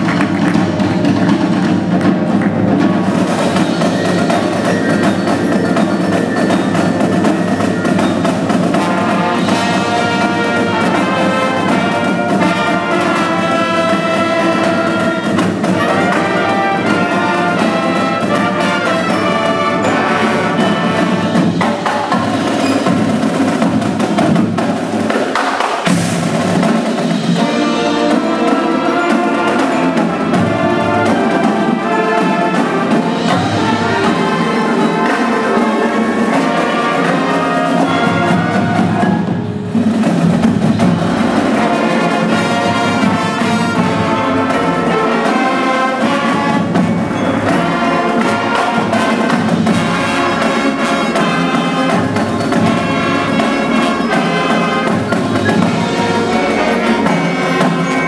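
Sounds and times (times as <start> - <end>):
marching band playing: 0.0 - 58.0.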